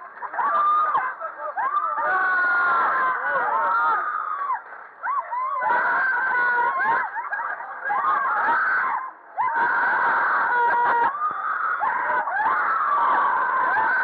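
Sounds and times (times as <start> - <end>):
riders screaming: 0.0 - 14.0.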